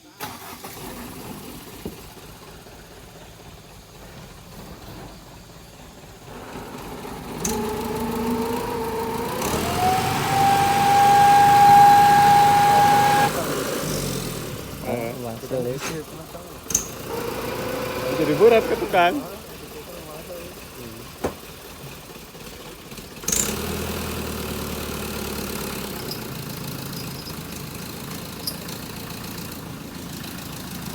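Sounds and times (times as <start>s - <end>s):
truck engine: 0.0s - 30.9s.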